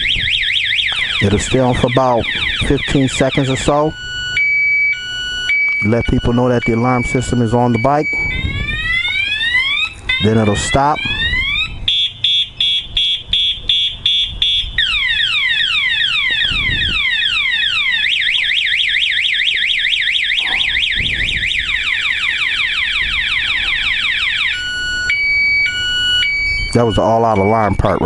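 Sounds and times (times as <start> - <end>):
motorcycle alarm siren: 0.0 - 28.0.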